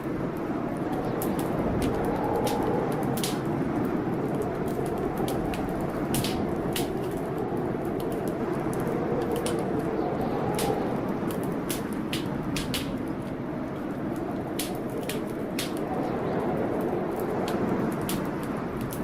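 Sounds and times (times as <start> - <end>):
fire popping and snapping: 0.0 - 19.0
storm rushing: 0.0 - 19.0
wood fire crackling: 0.0 - 19.0.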